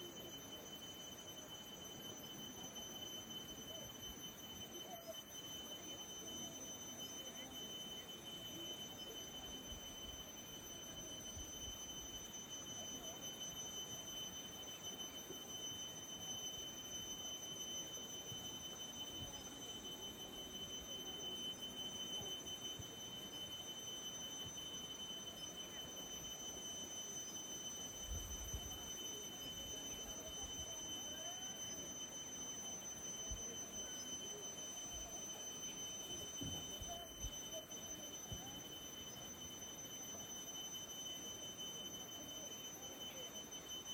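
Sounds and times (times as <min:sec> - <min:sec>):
steady high-pitched whine: 0:00.0 - 0:43.9.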